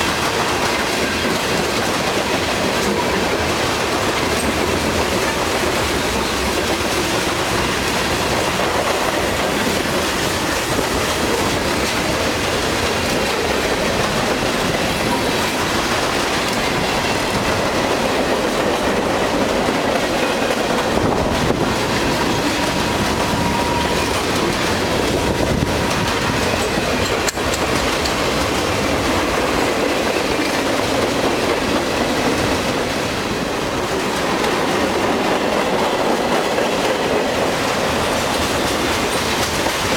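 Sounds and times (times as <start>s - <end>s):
clickety-clack over rail joints: 0.0s - 39.9s
train wheels rumbling on rails: 0.0s - 39.9s.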